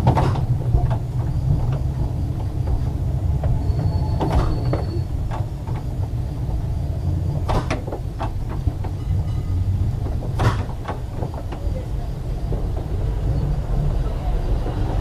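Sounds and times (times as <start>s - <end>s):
knocks and clunks: 0.0s - 15.0s
tram rumbling: 0.0s - 15.0s.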